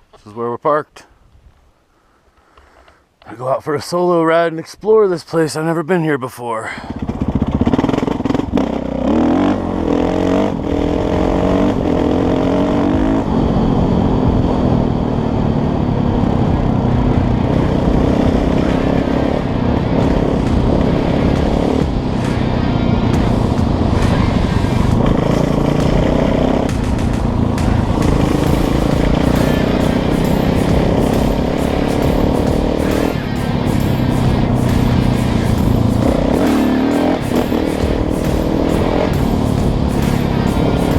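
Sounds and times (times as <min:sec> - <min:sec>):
dirt bike engine pulling away: 0:06.8 - 0:40.9.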